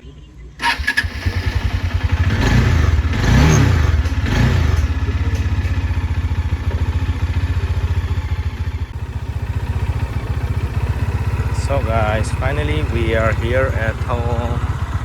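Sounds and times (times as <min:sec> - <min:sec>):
motorcycle engine revving and idling: 0:00.6 - 0:15.0.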